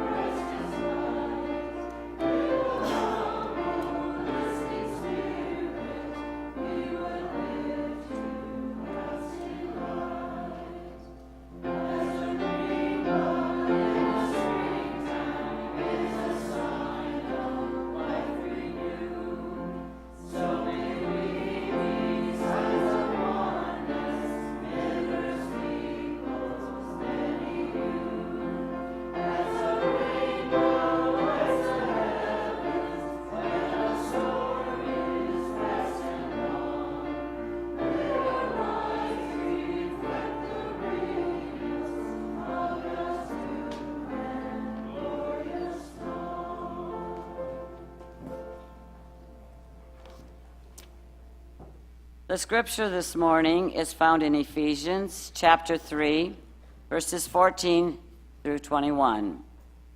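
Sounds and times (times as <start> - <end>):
choir singing: 0.0 - 49.4.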